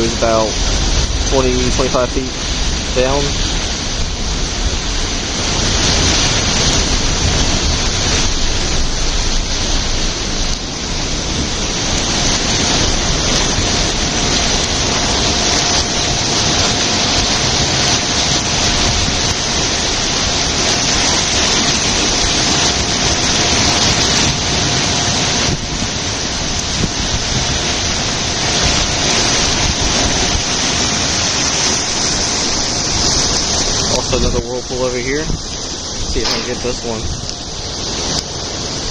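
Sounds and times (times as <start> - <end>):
water draining in a whirlpool: 0.0 - 38.9.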